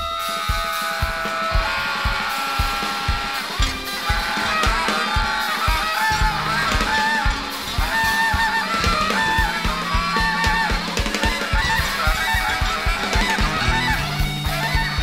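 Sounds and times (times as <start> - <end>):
fast dense drumming: 0.0 - 15.0
free jazz band: 0.0 - 15.0.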